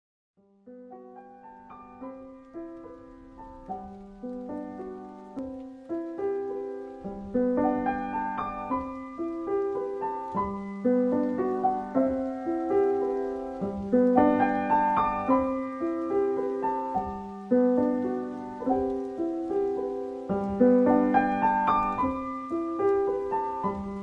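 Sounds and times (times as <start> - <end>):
piano music: 0.4 - 24.0.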